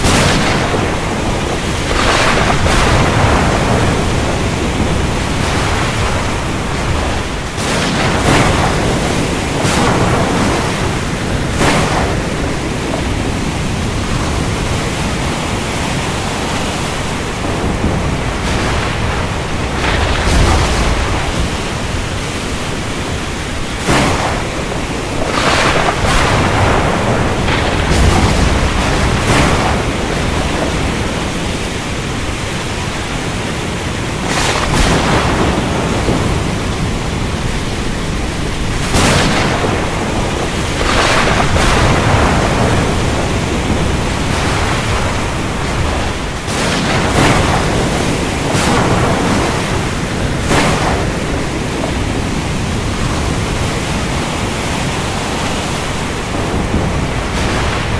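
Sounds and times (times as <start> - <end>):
heavy rain: 0.0 - 57.9
sharp thunder cracks: 0.0 - 57.9.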